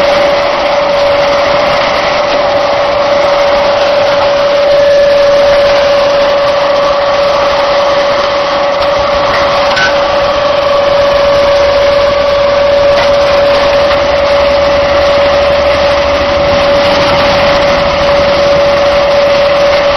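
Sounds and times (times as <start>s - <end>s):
concrete mixer pump engine running: 0.0s - 19.9s
steady whine: 0.0s - 19.9s.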